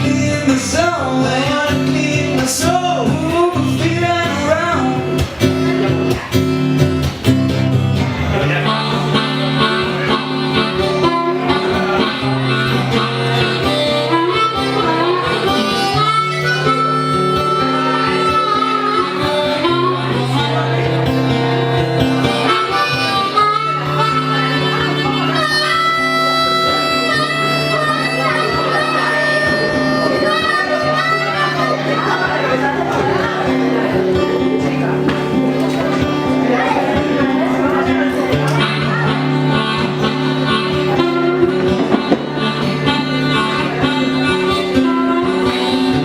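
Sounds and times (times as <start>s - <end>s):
guitar and bass accompaniment: 0.0s - 46.0s
harmonica solo: 0.0s - 46.0s.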